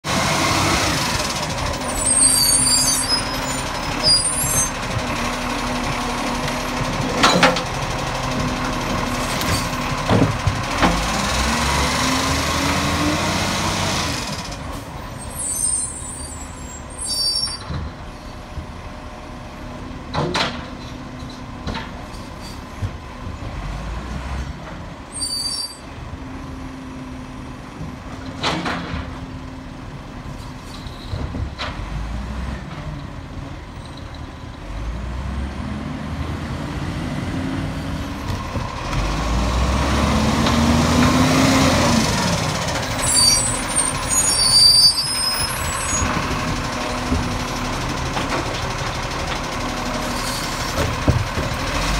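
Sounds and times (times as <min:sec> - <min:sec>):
truck diesel engine: 0:00.0 - 0:51.9.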